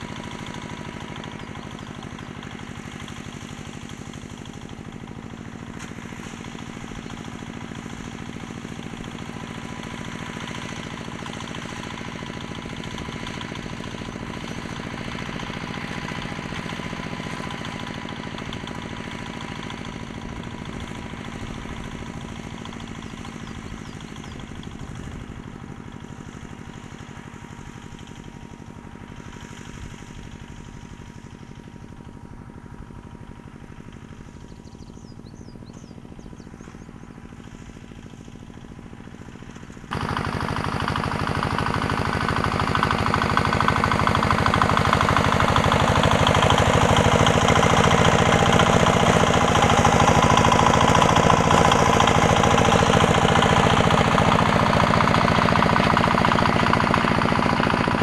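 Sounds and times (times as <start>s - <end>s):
small tractor engine running: 0.0s - 58.0s.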